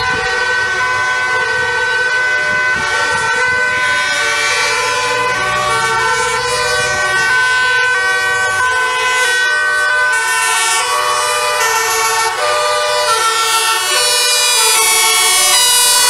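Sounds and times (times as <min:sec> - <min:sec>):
emergency vehicle sirens: 0:00.0 - 0:16.0.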